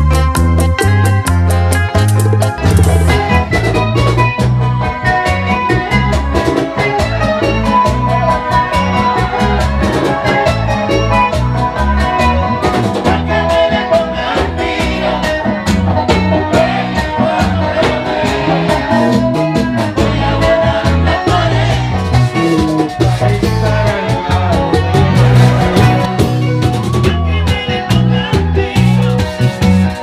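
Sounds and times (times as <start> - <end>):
live bachata band playing: 0.0 - 30.0.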